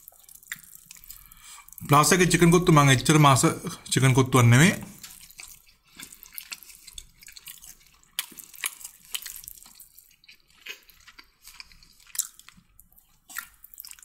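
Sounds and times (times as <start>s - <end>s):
person chewing food: 0.0s - 2.8s, 4.8s - 14.0s.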